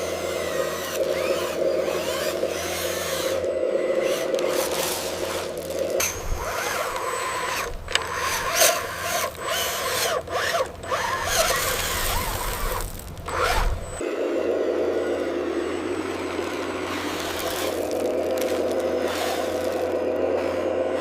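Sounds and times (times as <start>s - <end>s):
small electric motors whirring: 0.0s - 21.0s.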